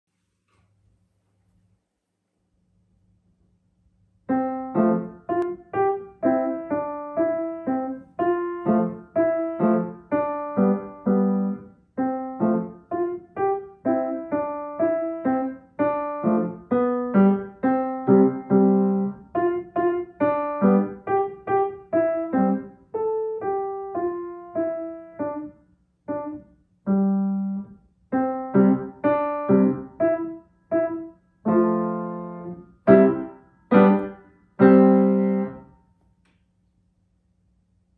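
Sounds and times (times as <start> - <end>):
solo piano piece: 4.2 - 35.7.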